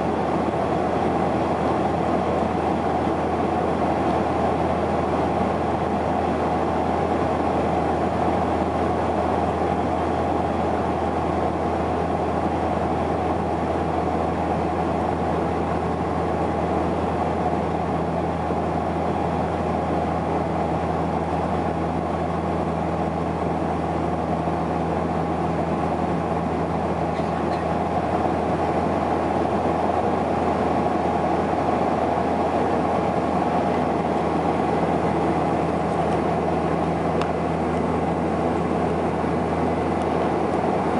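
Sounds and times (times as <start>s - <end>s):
turboprop engines droning: 0.0s - 40.9s.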